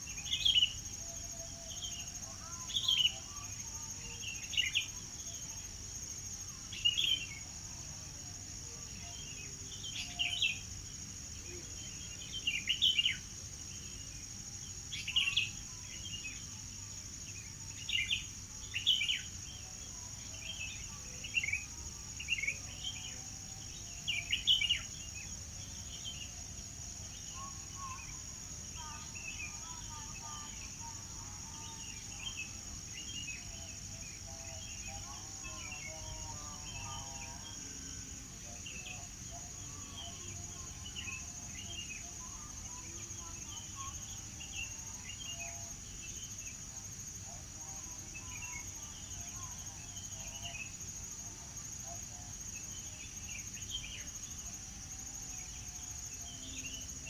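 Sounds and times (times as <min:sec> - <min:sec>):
high-pitched insect drone: 0:08.4 - 0:57.0.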